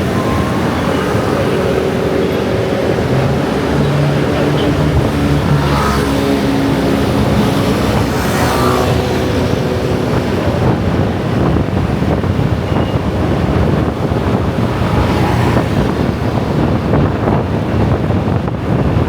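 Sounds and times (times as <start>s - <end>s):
motor scooters streaming past: 0.0s - 19.0s.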